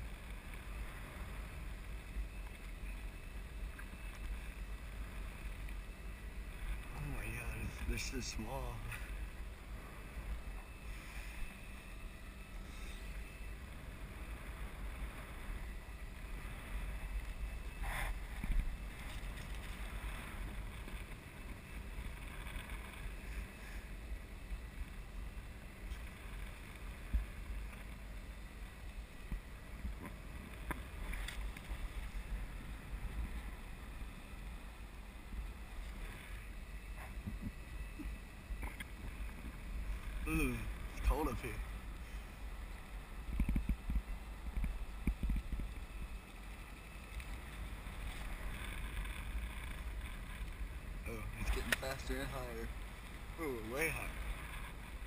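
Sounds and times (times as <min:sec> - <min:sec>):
wind buffeting microphone: 0:04.1 - 0:55.0.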